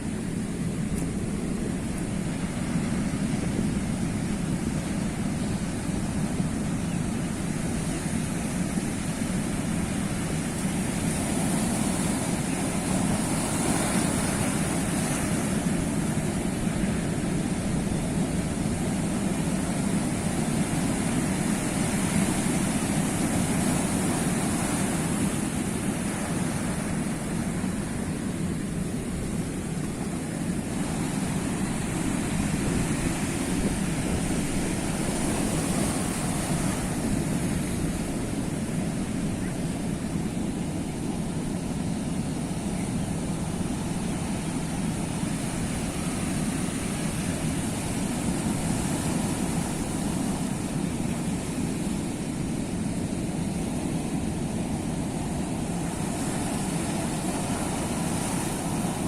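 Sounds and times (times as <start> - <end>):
sea waves washing: 0.0 - 59.0.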